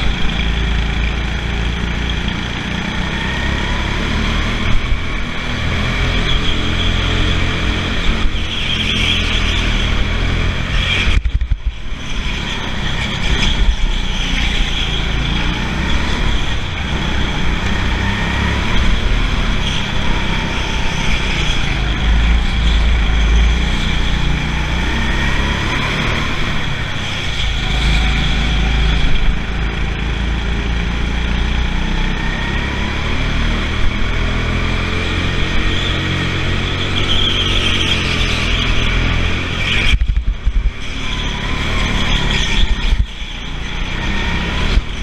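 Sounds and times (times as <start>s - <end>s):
go-kart engine at speed: 0.0s - 45.0s.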